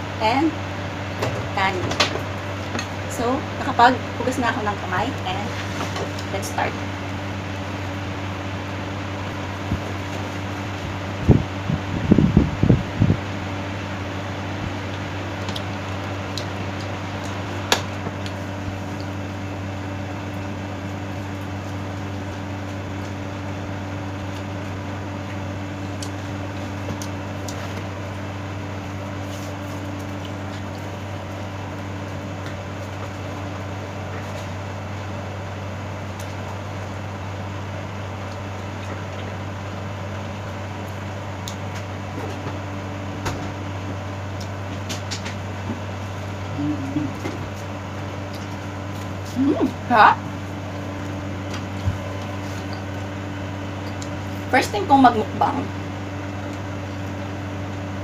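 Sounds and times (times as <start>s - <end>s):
appliance humming: 0.0s - 58.0s.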